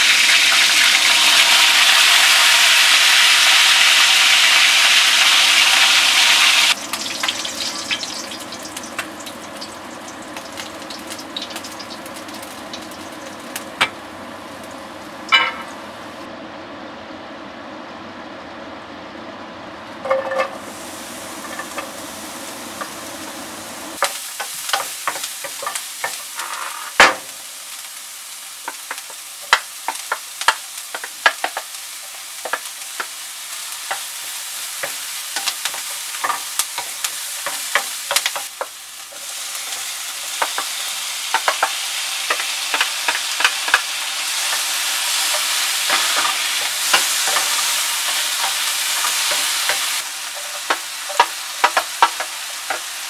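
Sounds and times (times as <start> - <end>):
food sizzling in hot oil: 0.0 - 16.3, 20.0 - 53.0.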